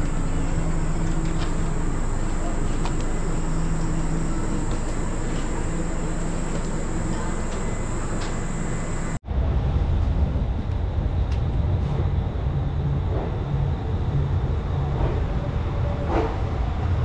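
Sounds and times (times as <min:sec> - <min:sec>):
steady hum: 0:00.0 - 0:14.7
train rumbling as it pulls out: 0:00.0 - 0:17.0.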